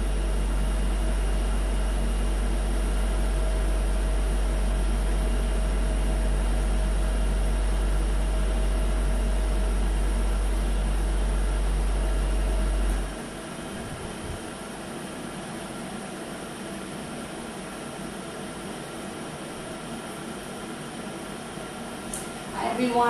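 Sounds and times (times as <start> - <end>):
faint steady whine: 0.0 - 23.0
steady low hum: 0.0 - 23.0.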